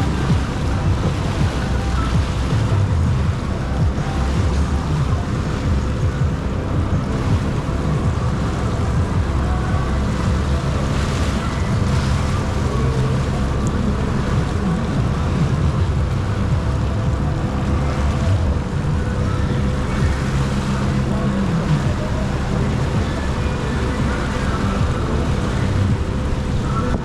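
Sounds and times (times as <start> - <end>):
jet ski engine running: 0.0 - 27.0
wind on microphone: 0.0 - 27.0.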